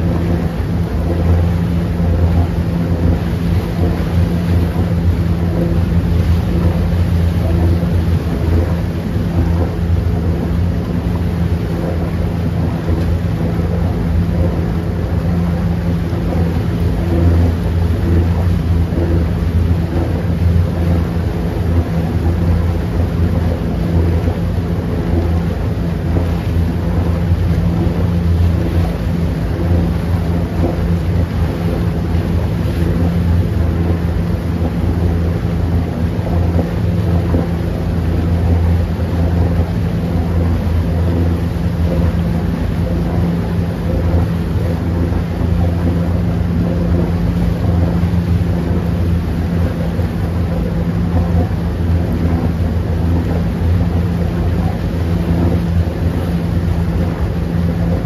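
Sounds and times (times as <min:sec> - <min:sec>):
motorboat engine droning: 0:00.0 - 0:58.0
water churning in propeller wake: 0:00.0 - 0:58.0.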